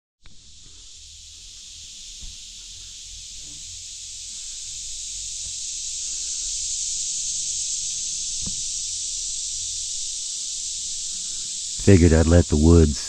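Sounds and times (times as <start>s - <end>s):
insect chorus drone: 0.2s - 13.0s.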